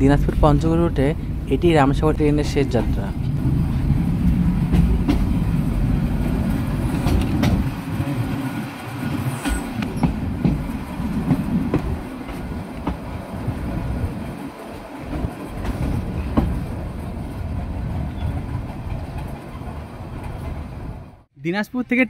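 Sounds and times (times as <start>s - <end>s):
train wheels rumbling on rails: 0.0s - 21.3s
wheels clacking over rail joints: 2.7s - 21.1s.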